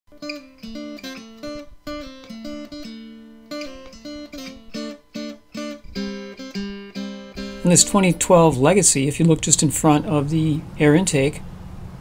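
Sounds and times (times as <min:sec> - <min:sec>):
acoustic guitar plucked notes: 0:00.1 - 0:10.7.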